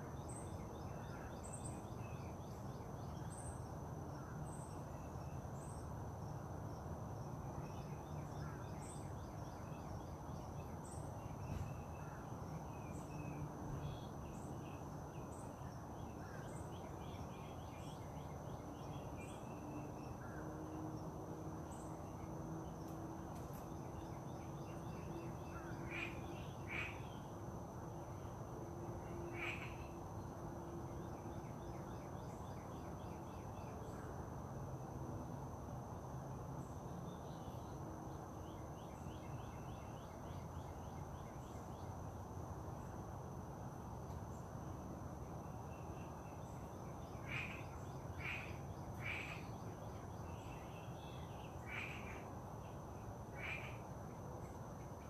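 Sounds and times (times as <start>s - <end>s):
insect drone: 0.0s - 55.0s.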